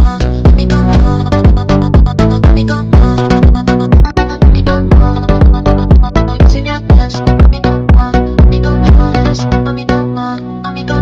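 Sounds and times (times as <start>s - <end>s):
kick drum beat: 0.0s - 9.2s
sustained synth chords: 0.0s - 10.1s.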